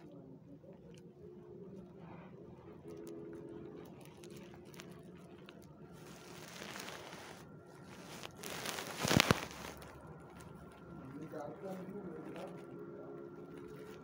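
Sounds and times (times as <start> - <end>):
rustling and crinkling: 1.8 - 14.0.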